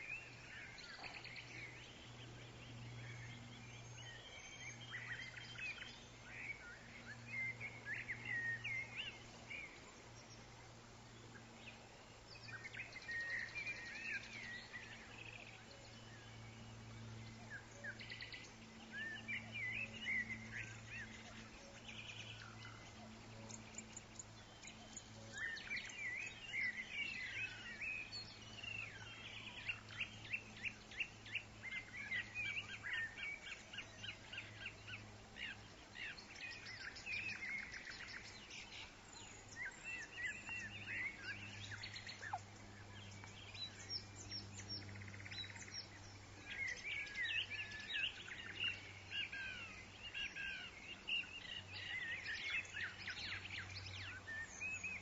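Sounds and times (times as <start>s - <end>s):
steady low hum: 0.0s - 55.0s
woodland birds chirping: 0.0s - 55.0s.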